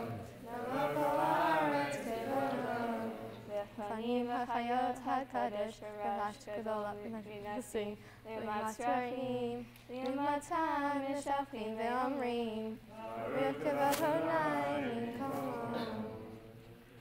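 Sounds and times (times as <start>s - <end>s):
girls chanting a prayer: 0.0s - 7.6s, 8.3s - 16.6s.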